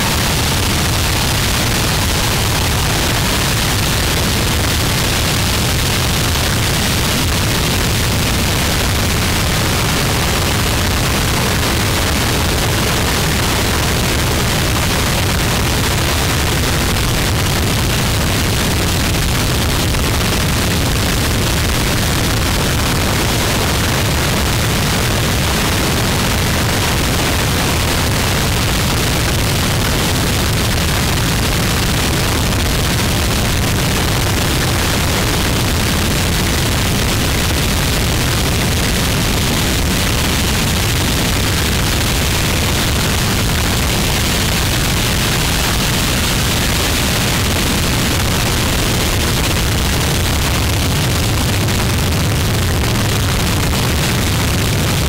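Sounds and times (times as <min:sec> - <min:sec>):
harsh wall of noise: 0:00.0 - 0:55.0.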